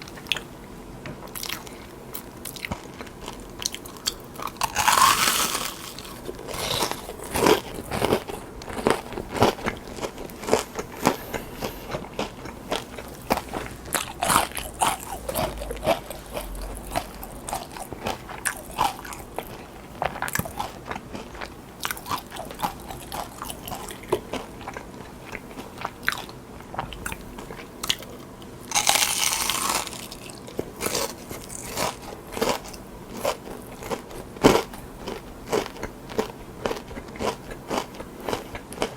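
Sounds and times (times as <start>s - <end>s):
crunchy bites and chewing: 2.4s - 28.1s, 28.7s - 38.9s.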